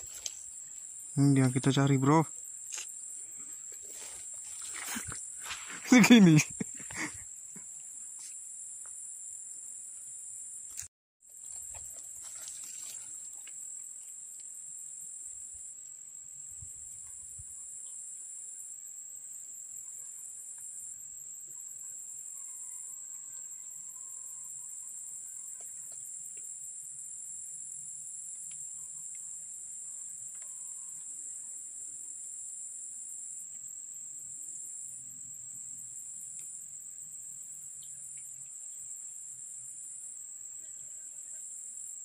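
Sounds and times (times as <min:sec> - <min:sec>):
high-pitched insect trill: 0:00.0 - 0:42.0
pulsing insect trill: 0:00.0 - 0:42.0.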